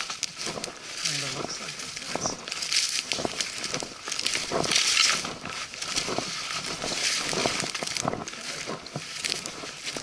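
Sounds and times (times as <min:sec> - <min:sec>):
leaves and brush swishing: 0:00.0 - 0:10.0
twigs crackling underfoot: 0:00.0 - 0:10.0.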